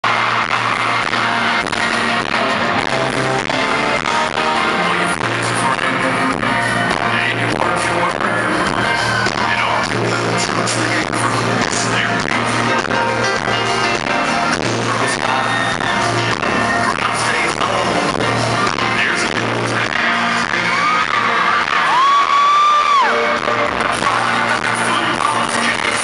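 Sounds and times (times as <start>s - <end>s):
electric guitar: 0.0s - 26.0s.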